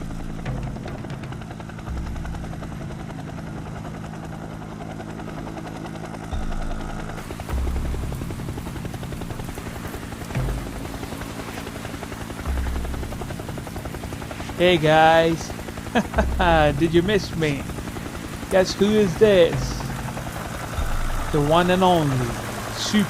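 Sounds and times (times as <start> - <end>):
helicopter rotor chopping: 0.0 - 23.0.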